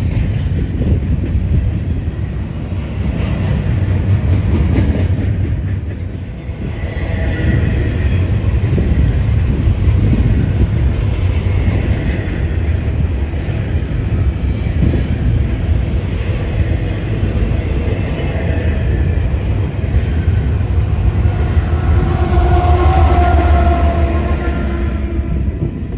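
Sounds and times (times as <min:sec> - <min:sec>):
diesel locomotive engine droning: 0:00.0 - 0:25.9
train wheels clattering on rail: 0:00.0 - 0:25.9.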